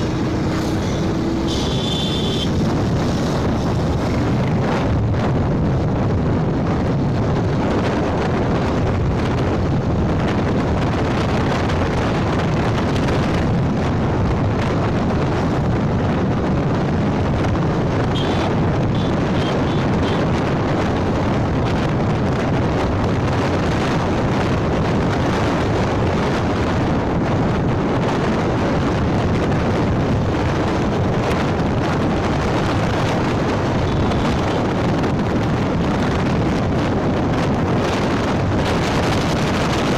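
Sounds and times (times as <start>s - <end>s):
motorcycle engine and road noise: 0.0s - 39.9s
wind buffeting microphone: 0.0s - 39.9s.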